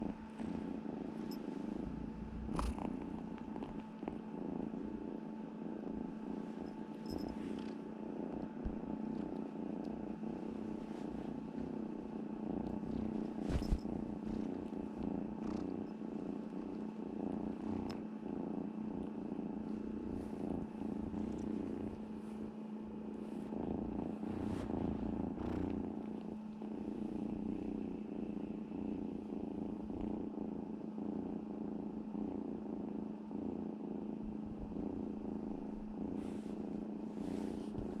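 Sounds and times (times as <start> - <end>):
kitten purring: 0.0 - 38.0
steady hum: 0.0 - 38.0.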